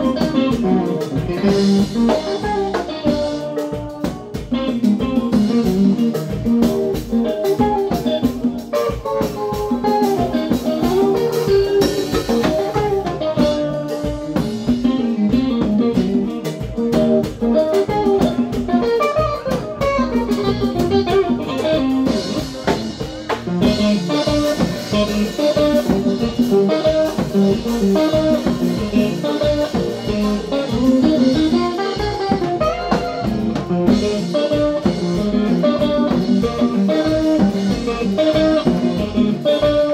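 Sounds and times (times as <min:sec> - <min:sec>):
drum kit: 0:00.0 - 0:39.9
electric guitar melodic lines: 0:00.0 - 0:39.9.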